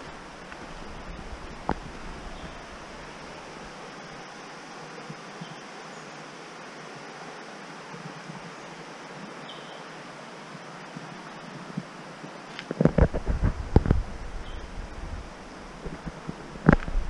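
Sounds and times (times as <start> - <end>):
creek water running over stones: 0.0 - 17.0.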